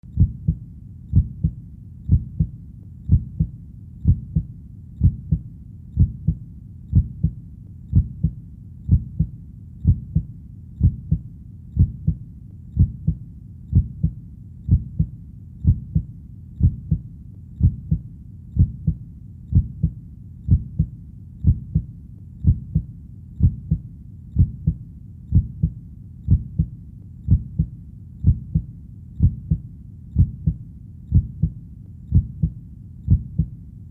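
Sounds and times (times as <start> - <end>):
heartbeat: 0.0 - 33.9.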